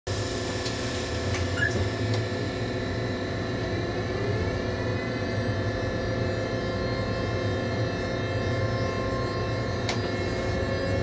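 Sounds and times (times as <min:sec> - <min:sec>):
electrical hum and fan noise: 0:00.1 - 0:11.0
faint rising whine: 0:00.1 - 0:11.0.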